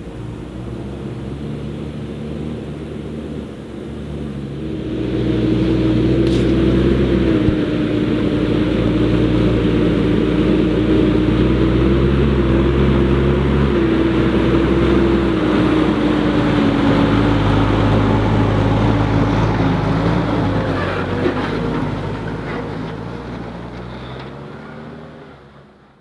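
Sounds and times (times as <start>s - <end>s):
steady machine whine: 0.0s - 23.0s
diesel machinery rumbling: 0.0s - 26.0s.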